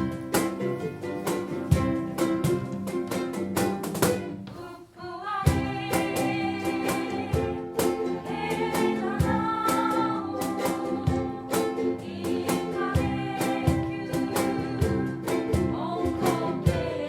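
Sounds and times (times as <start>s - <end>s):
ukulele ensemble strumming chords: 0.0s - 17.0s.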